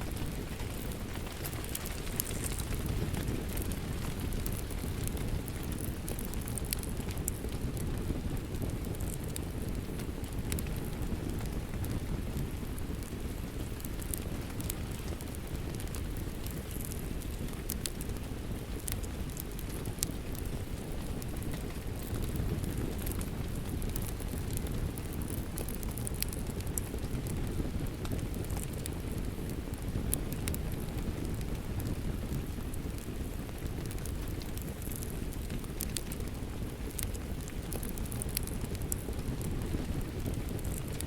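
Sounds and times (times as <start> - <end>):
steady rain: 0.0 - 41.0
wood fire crackling: 0.0 - 41.0.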